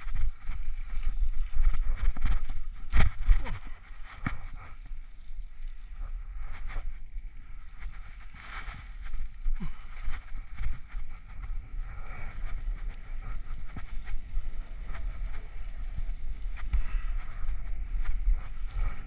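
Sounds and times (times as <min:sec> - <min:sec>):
bicycle rolling and rattling: 0:00.0 - 0:19.0.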